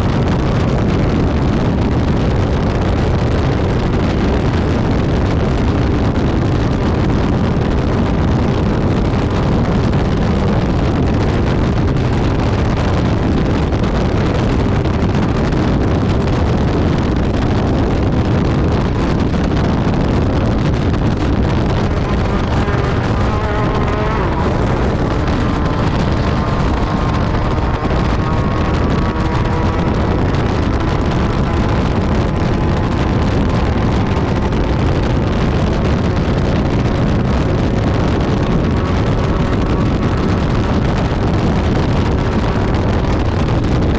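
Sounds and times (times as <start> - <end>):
buggy engine running hard: 0.0 - 43.9
loud steady din: 0.0 - 43.9.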